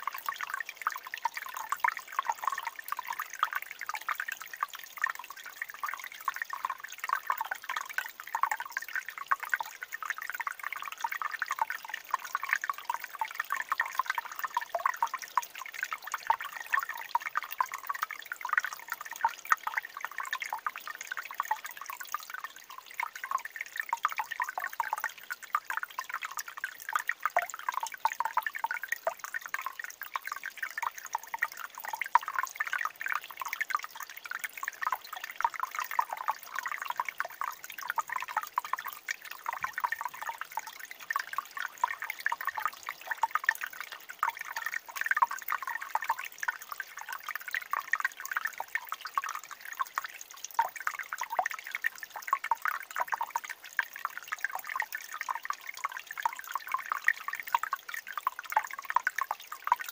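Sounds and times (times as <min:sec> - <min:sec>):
stream trickling among rocks: 0:00.0 - 0:59.9.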